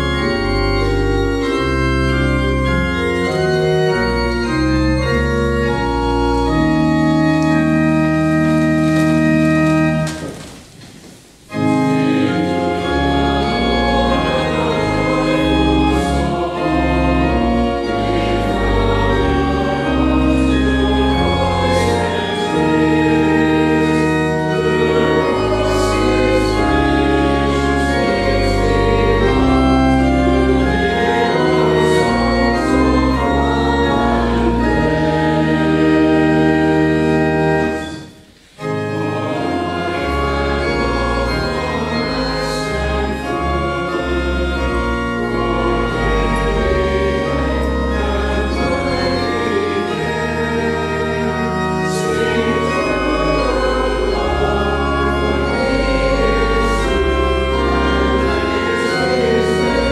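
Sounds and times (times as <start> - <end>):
choir and congregation singing hymn: 0.0 - 10.3, 11.5 - 59.9
church organ: 0.0 - 59.9.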